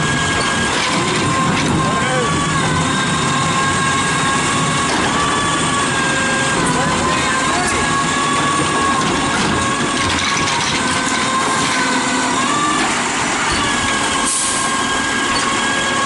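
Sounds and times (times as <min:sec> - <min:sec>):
garbage truck engine running: 0:00.0 - 0:16.0
hydraulic whine: 0:00.0 - 0:16.0.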